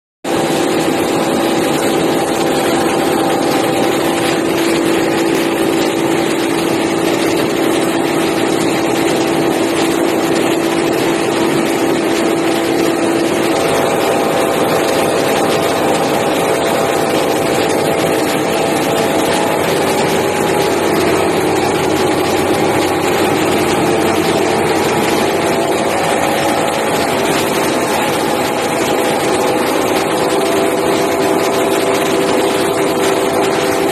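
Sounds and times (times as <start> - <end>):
rice milling machine droning: 0.3 - 33.9.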